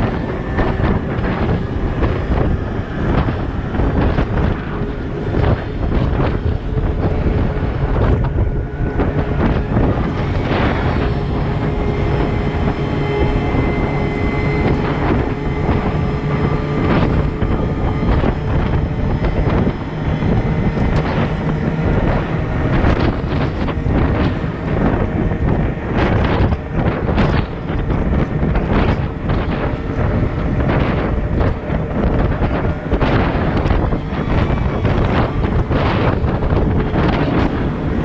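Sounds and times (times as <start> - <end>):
heavy diesel machinery running: 0.0 - 38.0
wind buffeting the microphone: 0.0 - 38.0.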